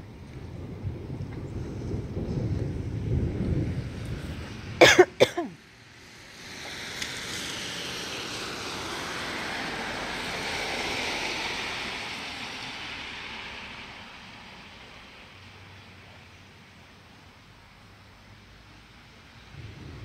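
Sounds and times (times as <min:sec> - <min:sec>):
car tyres hissing on wet road: 0:00.3 - 0:04.8, 0:05.6 - 0:20.0.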